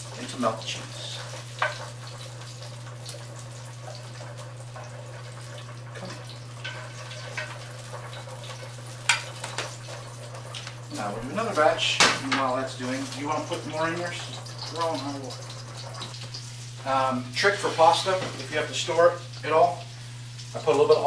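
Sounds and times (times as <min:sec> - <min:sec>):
faint cooking sizzle: 0:00.0 - 0:21.0.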